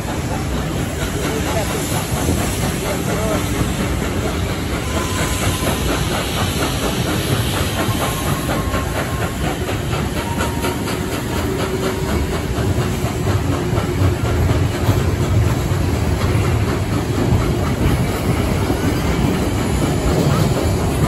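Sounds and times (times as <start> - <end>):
carriages rumbling on rails: 0.0 - 21.0
steam hissing: 0.0 - 21.0.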